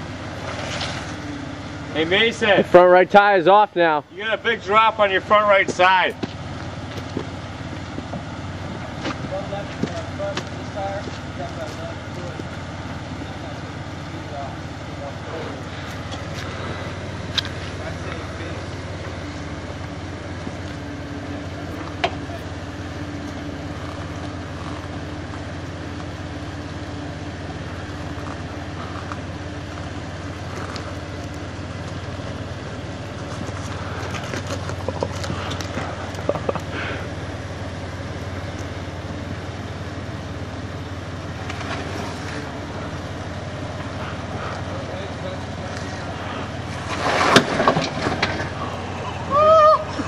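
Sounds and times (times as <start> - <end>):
engine running low: 0.0 - 50.0.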